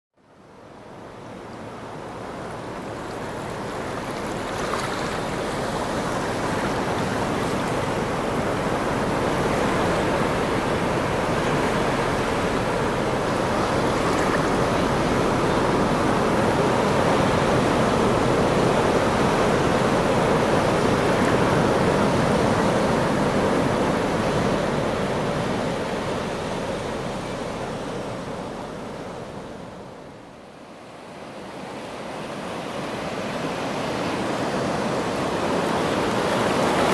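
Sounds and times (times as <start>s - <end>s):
ocean surf on rocky shore: 0.4s - 36.9s.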